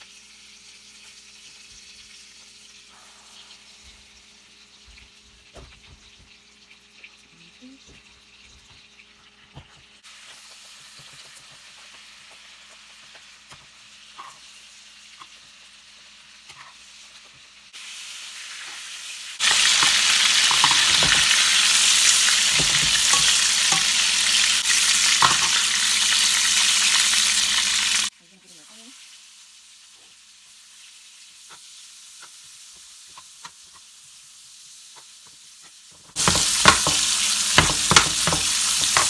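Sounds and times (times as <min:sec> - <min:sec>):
chicken sizzling in a pan: 0:00.0 - 0:39.0.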